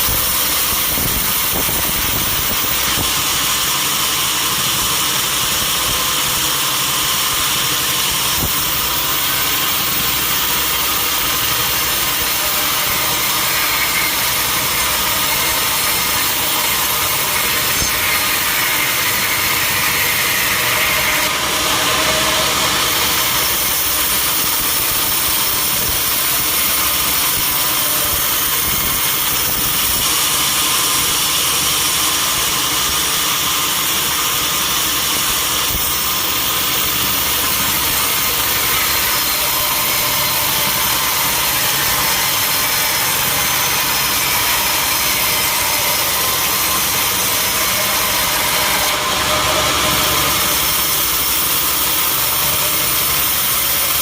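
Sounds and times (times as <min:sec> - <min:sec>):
sawmill saw cutting log: 0:00.0 - 0:54.0.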